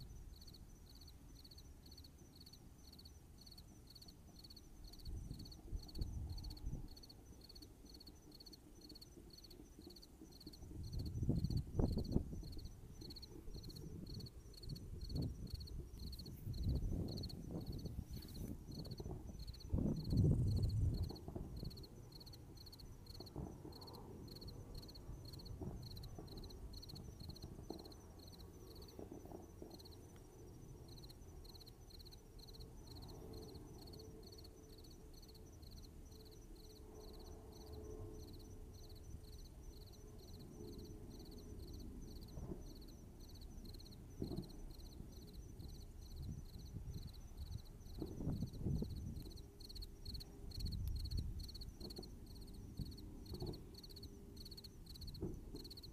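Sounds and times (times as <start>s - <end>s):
night insects chirping: 0.0s - 55.9s.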